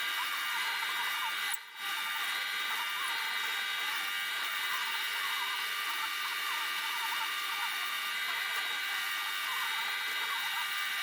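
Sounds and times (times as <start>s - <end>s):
electric drill boring wood: 0.0s - 11.0s.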